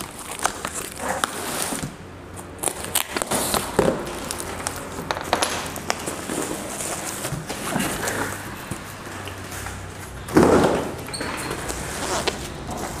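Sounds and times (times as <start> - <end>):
cardboard and plastic crinkling: 0.0 - 11.0.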